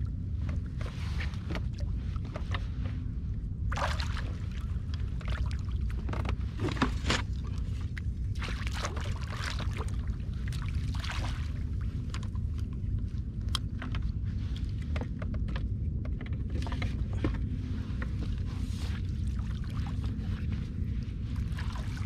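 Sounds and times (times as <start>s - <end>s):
steady low rumble: 0.0s - 22.0s
water splashing and sloshing: 0.0s - 22.0s.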